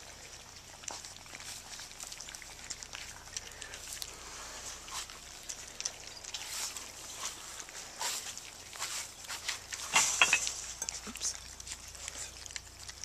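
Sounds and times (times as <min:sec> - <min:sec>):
puppies lapping food: 0:00.0 - 0:13.0.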